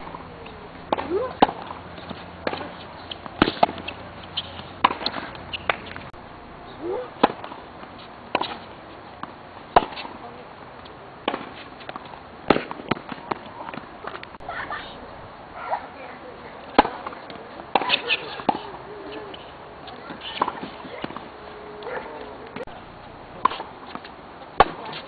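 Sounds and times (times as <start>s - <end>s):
tennis balls struck by rackets: 0.0s - 14.4s, 16.6s - 25.0s.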